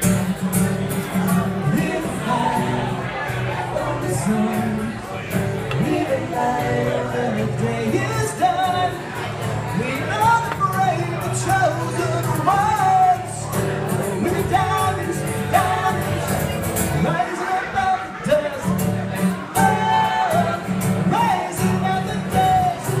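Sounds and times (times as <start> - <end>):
strummed acoustic guitar: 0.0 - 23.0
person singing: 1.3 - 23.0.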